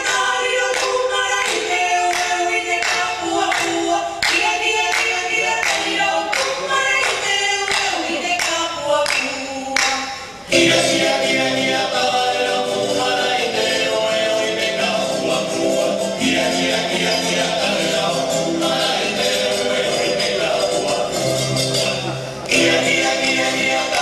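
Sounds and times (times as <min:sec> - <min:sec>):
group of voices singing: 0:00.0 - 0:24.0.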